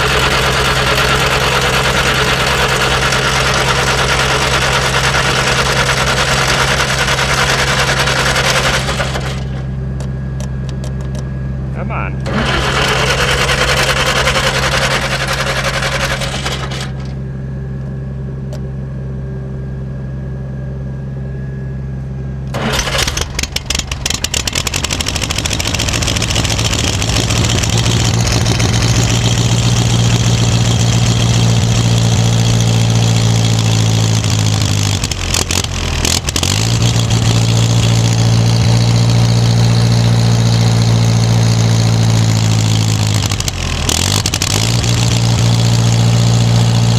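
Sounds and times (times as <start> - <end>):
another engine idling: 0.0 - 17.8, 22.5 - 46.9
snowblower engine starting and running: 0.0 - 21.4, 22.0 - 46.9.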